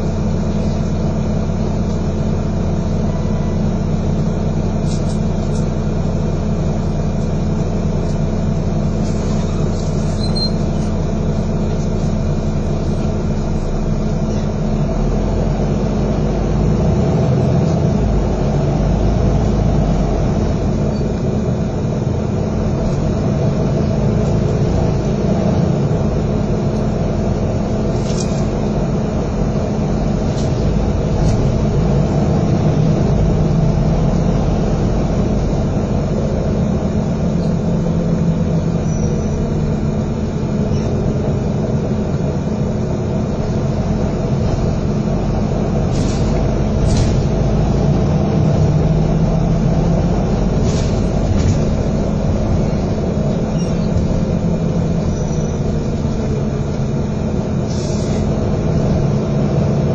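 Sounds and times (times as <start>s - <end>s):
bus engine and road noise: 0.0s - 59.9s.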